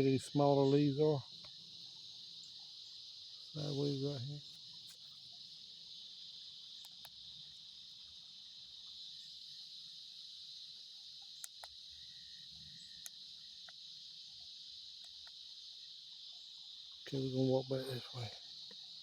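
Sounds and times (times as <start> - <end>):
insect chorus trilling: 0.0 - 19.0.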